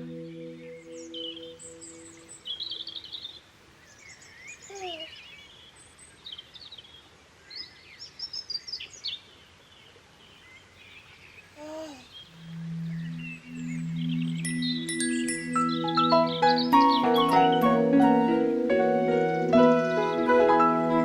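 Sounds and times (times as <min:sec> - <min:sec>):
faint steady hiss: 0:00.0 - 0:21.0
small birds chirping: 0:00.0 - 0:21.0.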